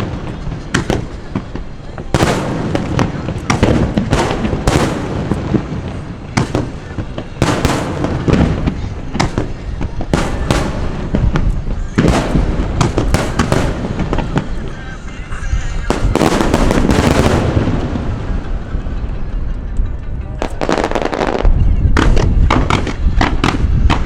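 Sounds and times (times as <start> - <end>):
fireworks bursting: 0.0 - 19.4, 20.4 - 24.0.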